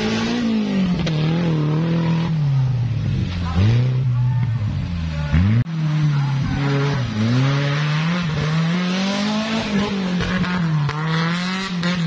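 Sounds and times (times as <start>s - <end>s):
buggy engine revving: 0.0s - 12.0s.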